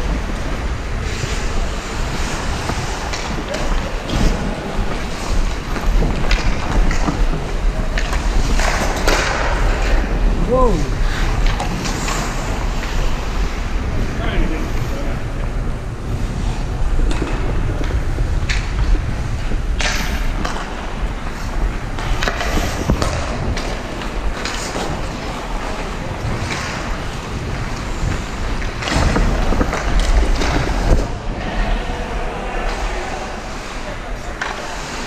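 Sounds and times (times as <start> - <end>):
hockey sticks and puck clacking: 0.0 - 10.3, 11.0 - 31.6, 32.3 - 35.0
skates scraping on ice: 0.0 - 35.0.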